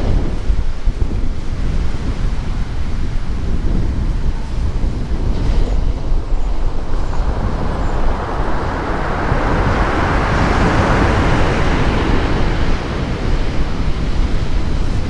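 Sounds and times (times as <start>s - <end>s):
sea waves breaking: 0.0s - 15.0s
wind on microphone: 0.0s - 15.0s.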